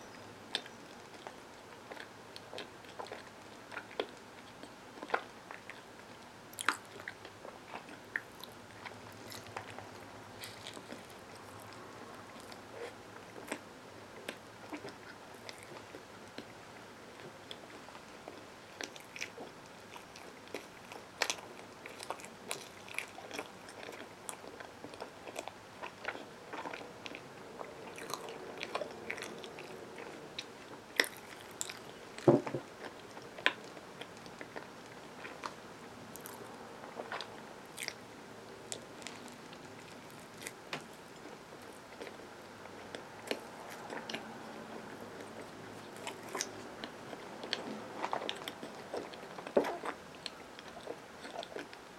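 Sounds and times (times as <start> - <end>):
person chewing: 6.6 - 16.6, 17.2 - 38.1, 38.7 - 51.8.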